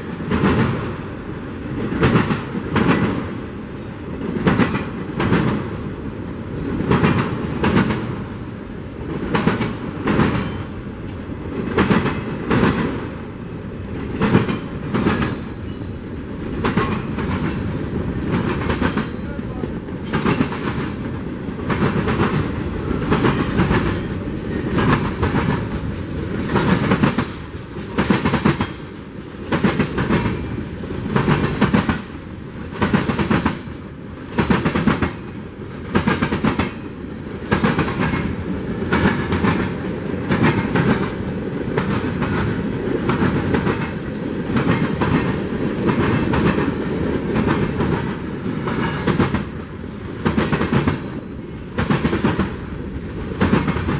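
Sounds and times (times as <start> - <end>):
rumble of train cars: 0.0 - 53.9
train wheels clacking over rail joints: 1.9 - 3.3, 6.8 - 8.2, 9.1 - 13.0, 13.9 - 19.2, 20.0 - 33.7, 34.3 - 36.8, 37.4 - 49.6, 50.2 - 52.7, 53.3 - 53.9.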